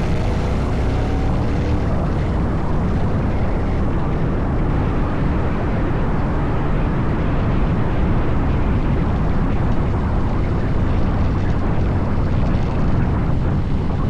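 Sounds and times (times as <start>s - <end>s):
scooter engine drone: 0.0s - 14.0s.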